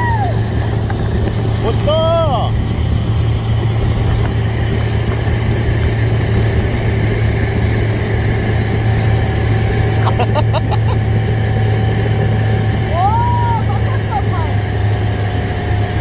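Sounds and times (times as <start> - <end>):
boat wake rushing: 0.0 - 16.0
outboard motor humming: 0.0 - 16.0
wind: 0.0 - 16.0.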